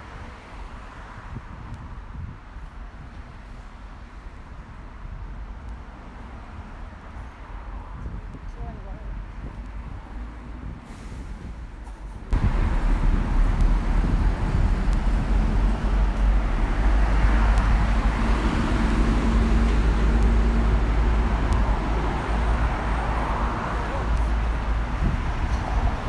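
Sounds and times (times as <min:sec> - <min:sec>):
traffic engine and tyre noise: 0:00.0 - 0:26.0
heavy low rumble: 0:01.2 - 0:26.0.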